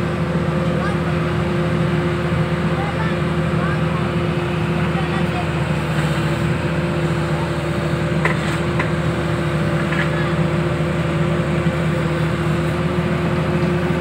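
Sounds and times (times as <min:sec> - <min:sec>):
drilling rig engine humming: 0:00.0 - 0:14.0.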